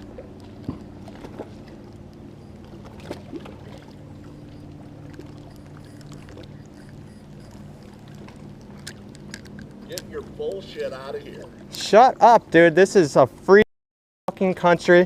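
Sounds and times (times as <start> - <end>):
boat motor humming: 0.0 - 13.6.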